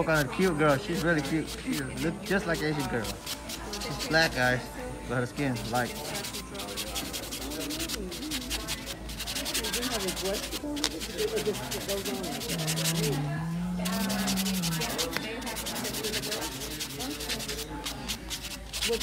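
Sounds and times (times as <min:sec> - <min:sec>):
sanding block rasping on nail: 0:00.0 - 0:04.6, 0:05.4 - 0:19.0.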